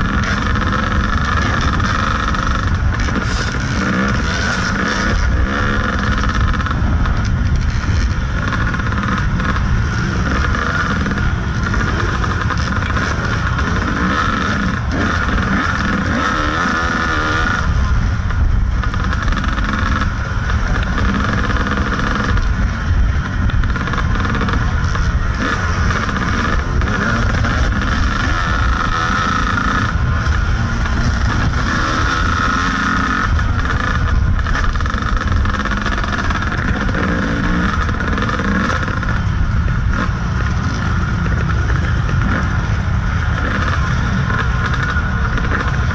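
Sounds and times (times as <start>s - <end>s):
dirt bike engine revving: 0.0s - 45.9s
low wind rumble: 0.0s - 45.9s.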